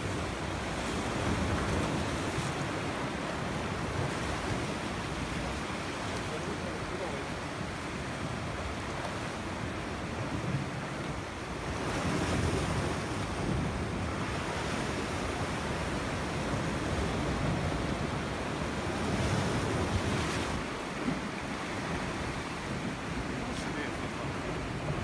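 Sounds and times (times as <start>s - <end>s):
waves washing against rocks: 0.0s - 25.0s
wind gusting on microphone: 0.0s - 25.0s.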